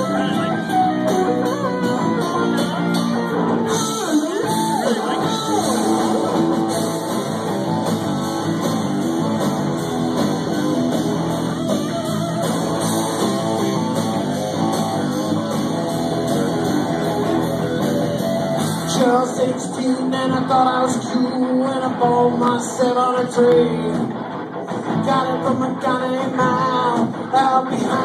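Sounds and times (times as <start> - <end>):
electric guitar lead bending notes: 0.0 - 27.3
rock band playing: 0.0 - 28.0.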